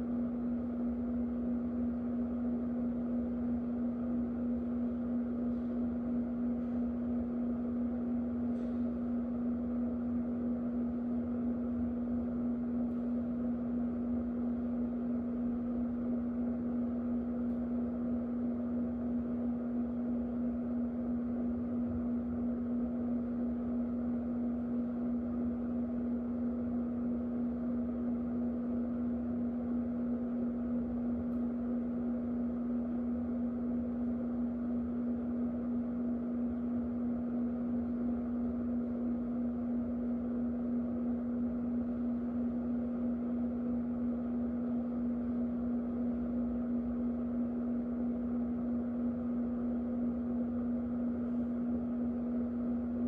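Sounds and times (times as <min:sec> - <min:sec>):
electric fan running: 0:00.0 - 0:53.0.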